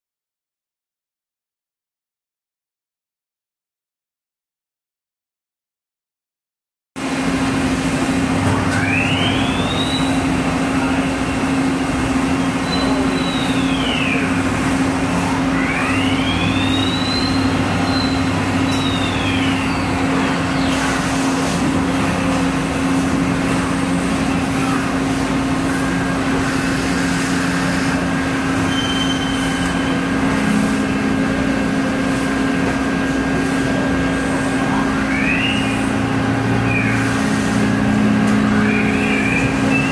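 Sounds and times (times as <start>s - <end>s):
machine hum: 7.0s - 39.9s.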